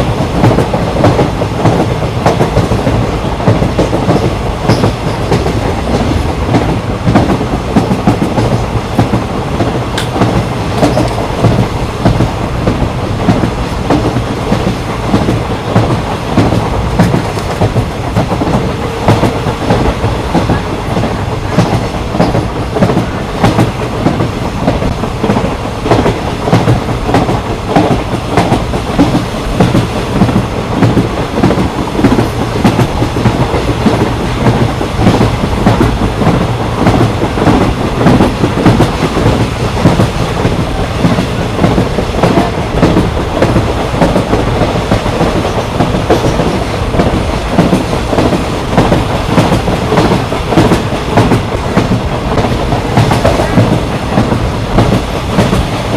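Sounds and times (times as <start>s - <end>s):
train rumbling along track: 0.0s - 55.9s
wheels clacking over rail joints: 0.0s - 55.9s.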